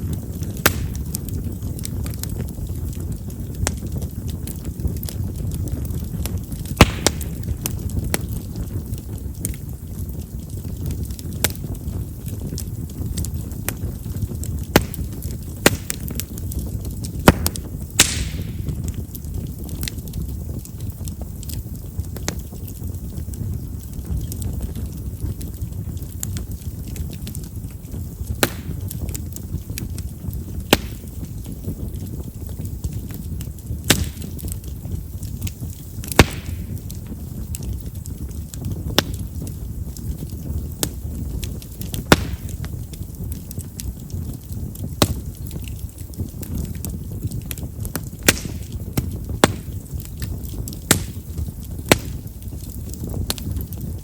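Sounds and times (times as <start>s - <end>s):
firewood crackling in a campfire: 0.0s - 54.0s
sharp pops of burning wood: 0.0s - 54.0s.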